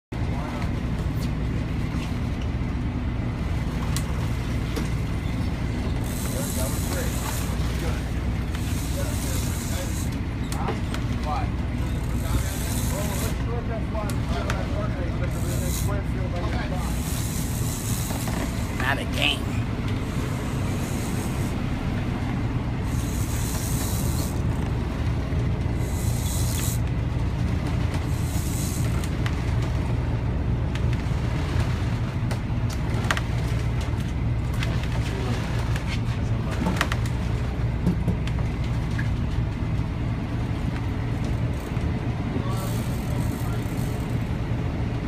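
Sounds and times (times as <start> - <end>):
boat engines droning: 0.1 - 45.0.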